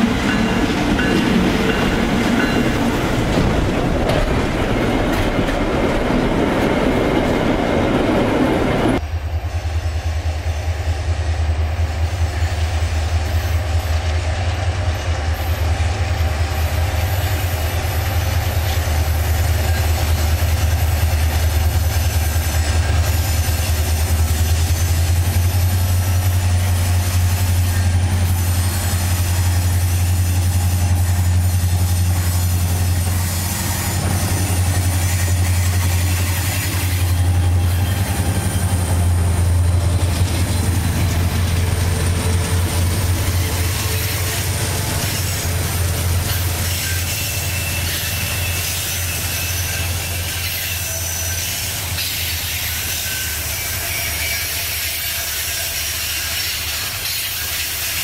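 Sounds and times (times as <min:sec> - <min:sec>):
diesel locomotives droning: 0:00.0 - 0:58.0
wheel and rail noise: 0:00.0 - 0:58.0.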